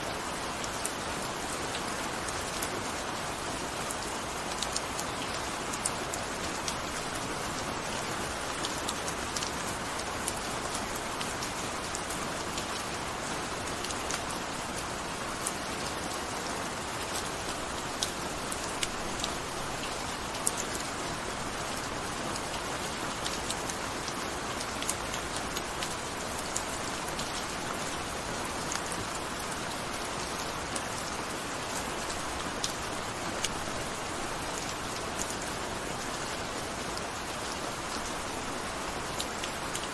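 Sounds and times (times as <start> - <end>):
gentle rain hissing: 0.0 - 39.9
raindrops ticking on surface: 0.1 - 39.9.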